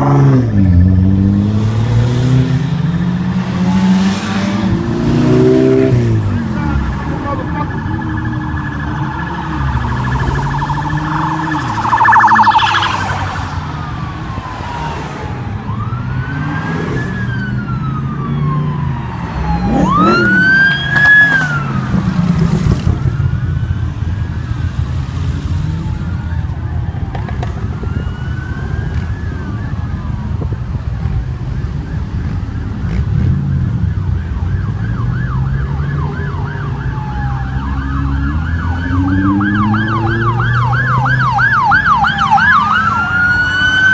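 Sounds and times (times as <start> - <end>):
emergency siren wailing: 0.0 - 43.9
vehicle engines running: 0.0 - 43.9.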